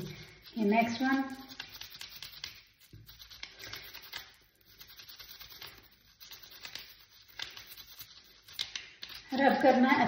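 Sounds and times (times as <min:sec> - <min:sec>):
toothbrush scrubbing metal: 0:00.0 - 0:10.0.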